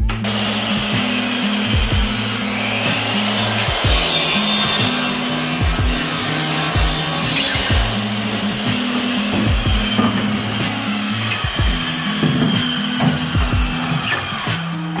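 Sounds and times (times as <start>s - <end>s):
background music with bass line: 0.0s - 15.0s
thin high whine: 0.3s - 15.0s.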